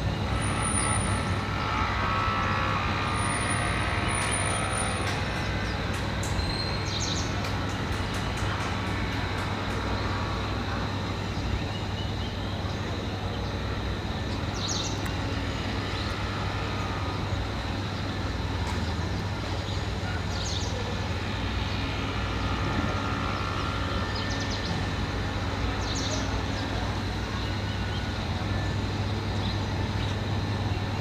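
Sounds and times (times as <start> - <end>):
heavy machinery engine drone: 0.0 - 31.0.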